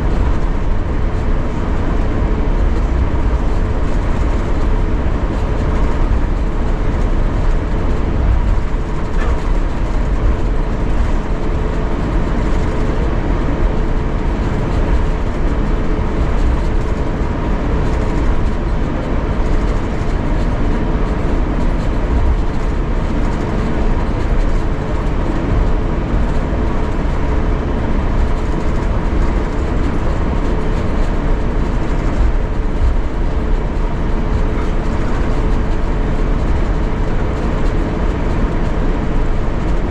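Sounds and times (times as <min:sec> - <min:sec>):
aircraft cabin rumble: 0:00.0 - 0:39.9
jet engines idling hum: 0:00.0 - 0:39.9.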